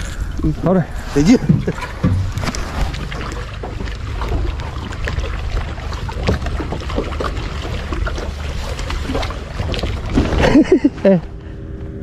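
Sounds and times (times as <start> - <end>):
small waves lapping against boat hull: 0.0 - 11.9
low rumble: 0.0 - 12.0.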